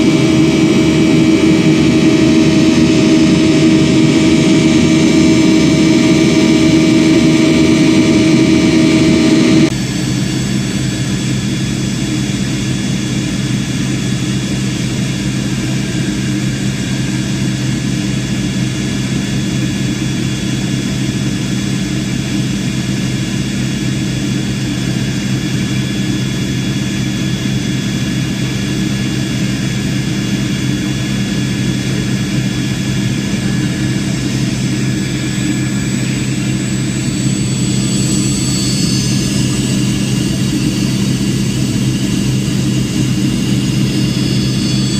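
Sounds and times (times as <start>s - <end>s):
airplane engines running: 0.0s - 44.9s.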